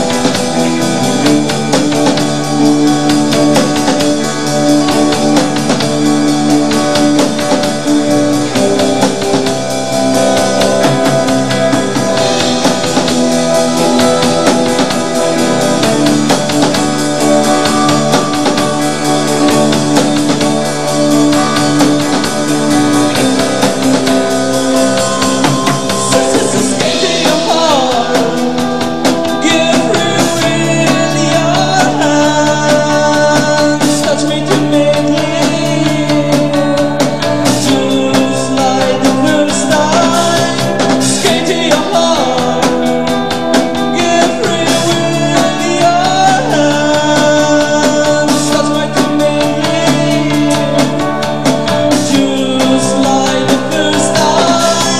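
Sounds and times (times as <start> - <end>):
drum kit steady beat: 0.0 - 54.9
rock band playing live: 0.0 - 54.9.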